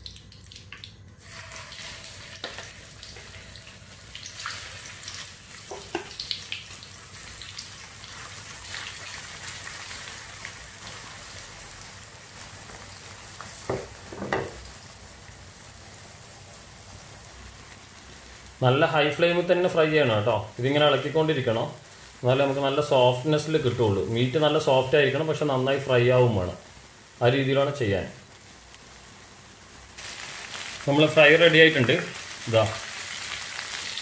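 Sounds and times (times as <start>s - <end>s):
chicken deep-frying in oil: 0.0s - 34.0s.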